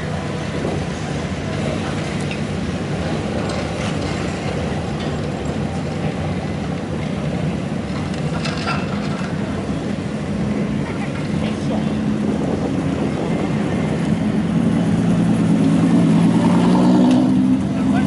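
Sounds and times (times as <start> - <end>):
car engines rumbling past: 0.0 - 18.0.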